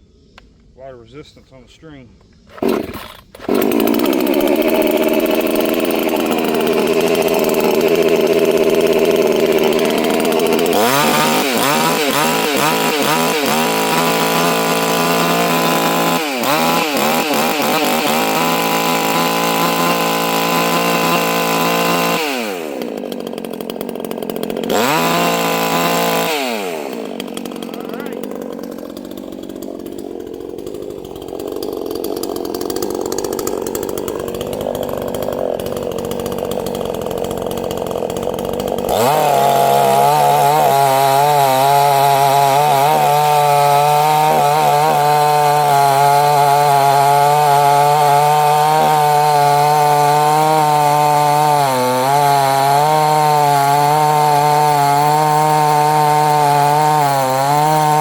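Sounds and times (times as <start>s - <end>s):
chainsaw revving: 2.5s - 58.0s.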